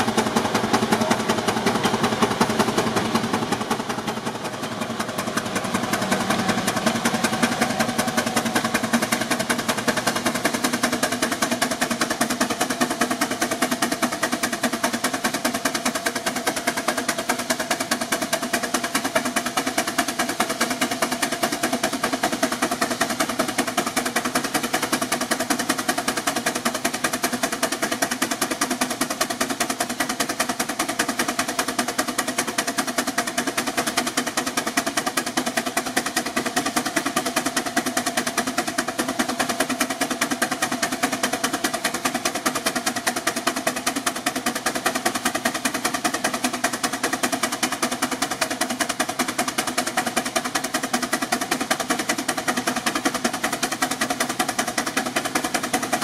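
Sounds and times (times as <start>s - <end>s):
steam engine exhaust chuffing: 0.0s - 56.0s.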